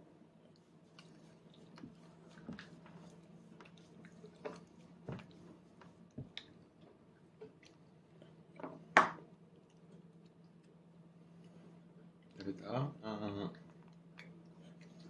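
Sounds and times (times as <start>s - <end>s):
faint steady hum: 0.0s - 15.0s
toddler chewing food: 0.4s - 12.4s, 13.6s - 15.0s.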